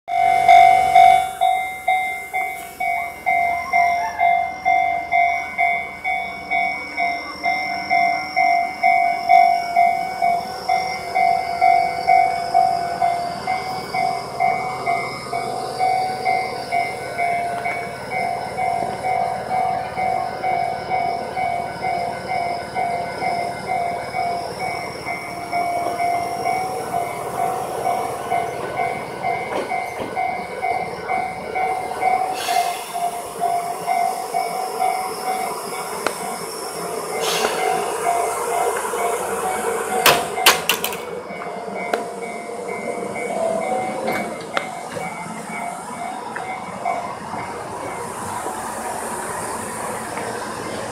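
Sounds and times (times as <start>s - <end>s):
electric train approaching: 0.1s - 50.9s
level crossing warning bell: 0.1s - 50.9s.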